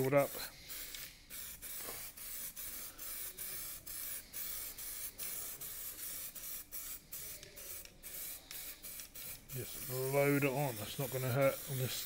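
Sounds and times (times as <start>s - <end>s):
aerosol spray can hissing: 0.0s - 12.0s.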